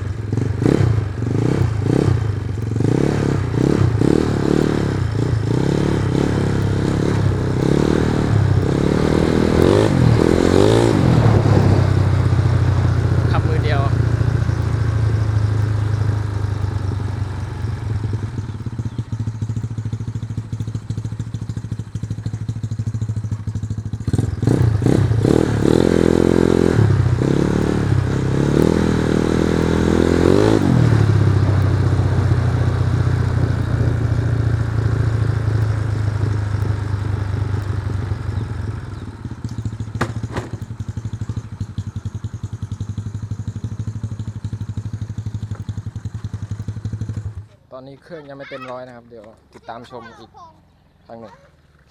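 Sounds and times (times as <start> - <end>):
scooter engine idling and revving: 0.0 - 51.9.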